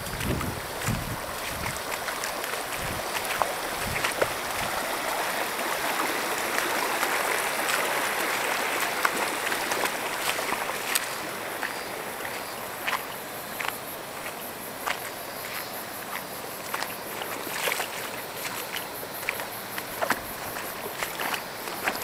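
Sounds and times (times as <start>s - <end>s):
stream rippling over rocks: 0.0s - 22.0s.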